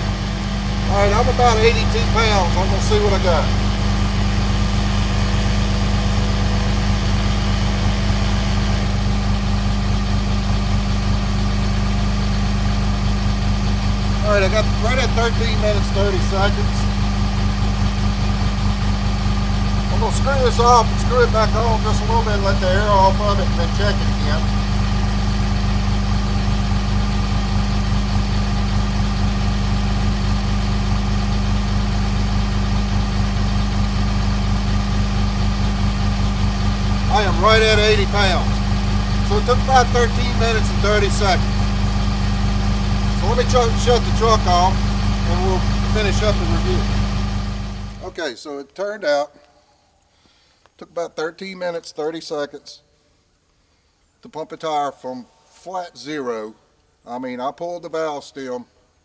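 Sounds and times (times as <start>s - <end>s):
truck engine idling: 0.0s - 48.3s.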